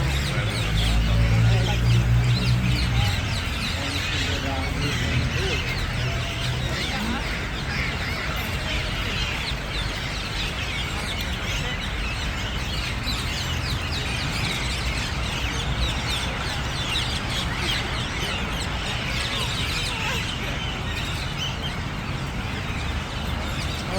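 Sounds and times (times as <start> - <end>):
many birds calling: 0.0 - 23.9.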